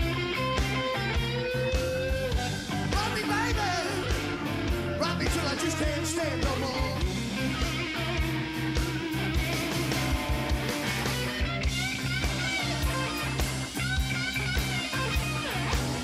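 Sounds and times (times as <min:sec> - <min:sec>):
rock song with drums and guitar: 0:00.0 - 0:16.0.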